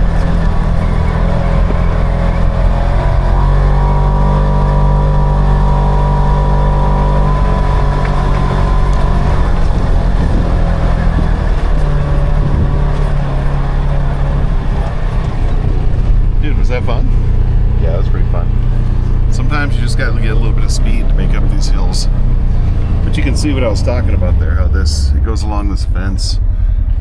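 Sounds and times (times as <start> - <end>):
utility vehicle engine running: 0.0 - 27.0.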